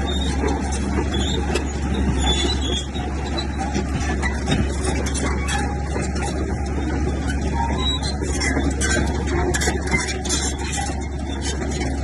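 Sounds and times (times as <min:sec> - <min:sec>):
bulldozer diesel engine humming: 0:00.0 - 0:12.0
clanking and scraping tracks: 0:00.0 - 0:12.0.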